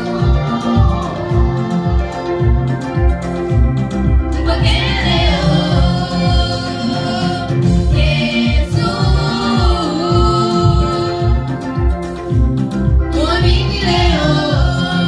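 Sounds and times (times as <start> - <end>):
choir singing gospel: 0.0 - 15.0
electronic keyboard organ chords: 0.0 - 15.0
steady low beat: 0.0 - 15.0.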